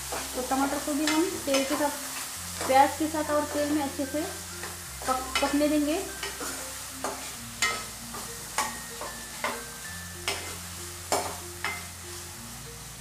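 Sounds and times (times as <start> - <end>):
faint background music: 0.0 - 13.0
onion frying in oil sizzling: 0.0 - 13.0.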